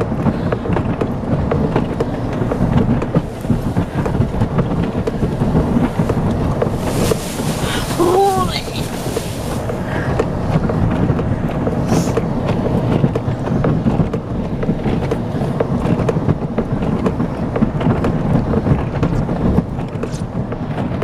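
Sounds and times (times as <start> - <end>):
knocks and rattles of plowing snow: 0.0 - 21.0
truck engine running under load: 0.0 - 21.0.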